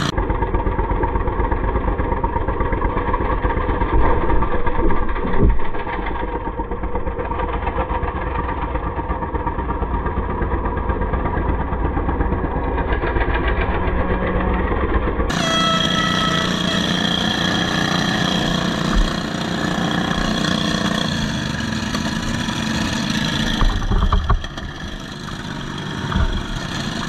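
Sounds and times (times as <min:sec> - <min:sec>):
riding mower engine: 0:00.0 - 0:27.0.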